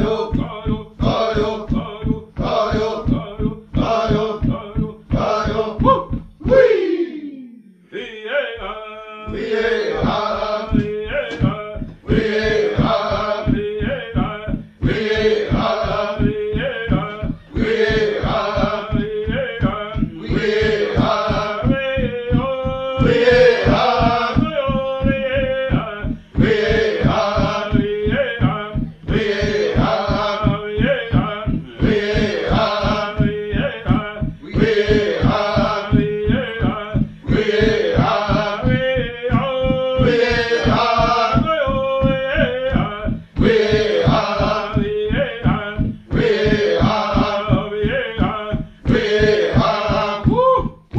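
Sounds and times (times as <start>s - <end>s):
fast drum beat: 0.0s - 6.6s, 9.3s - 50.9s
men chanting: 0.0s - 50.9s.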